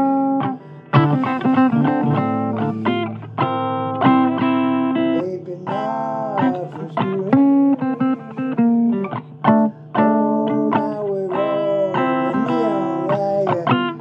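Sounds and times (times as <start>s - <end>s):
blues guitar playing: 0.0s - 14.0s.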